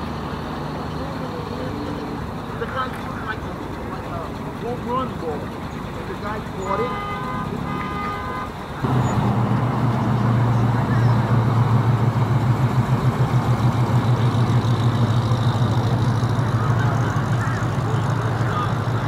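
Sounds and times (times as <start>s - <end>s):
car engine and exhaust rumbling: 0.0s - 19.0s.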